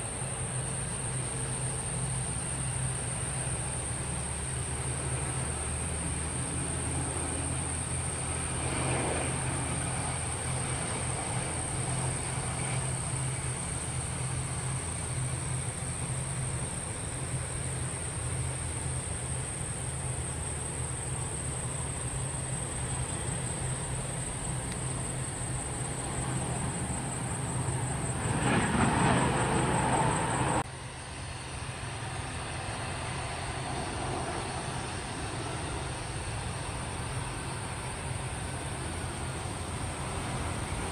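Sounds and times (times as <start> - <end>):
distant jet on approach: 0.0 - 40.9
jet landing with whine: 0.0 - 40.9.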